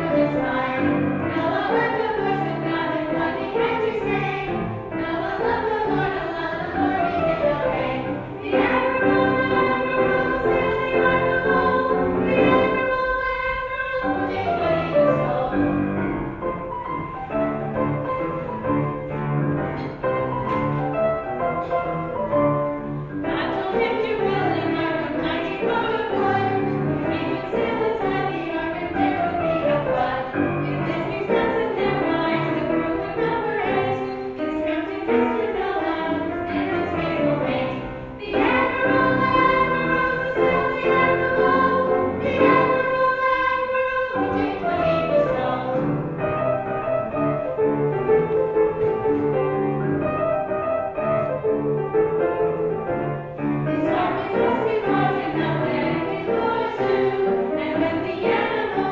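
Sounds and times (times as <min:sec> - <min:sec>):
children's choir singing: 0:00.0 - 0:51.4, 0:53.0 - 0:58.9
instrumental accompaniment: 0:00.0 - 0:58.9.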